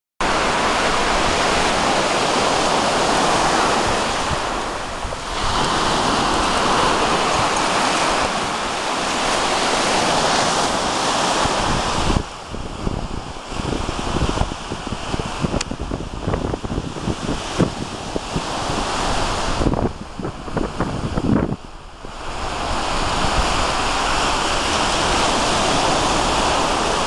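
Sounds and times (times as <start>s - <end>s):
surf breaking on shore: 0.2s - 27.0s
wind on microphone: 0.2s - 27.0s.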